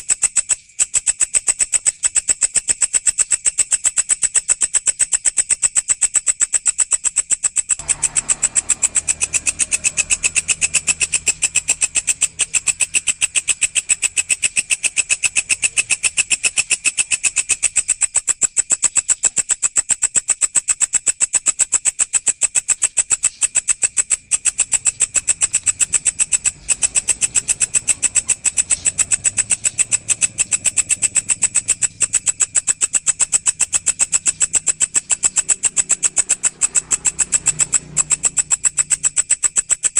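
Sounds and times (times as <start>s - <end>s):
grasshopper stridulating: 0.0s - 39.9s.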